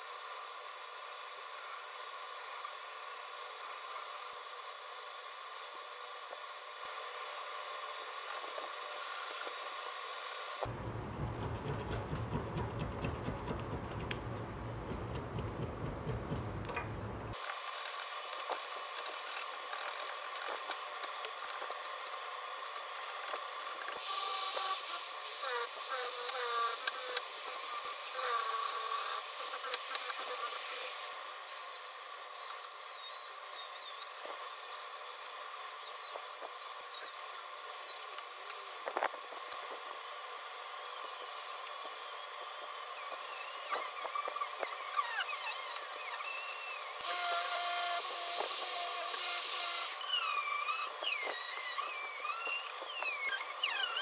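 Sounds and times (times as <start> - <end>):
rotary tool whining: 0.0 - 10.7, 17.3 - 54.0.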